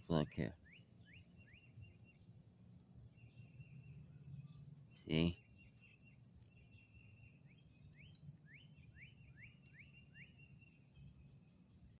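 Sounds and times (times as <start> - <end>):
bird chirps: 0.0 - 12.0
low background hum: 0.0 - 12.0.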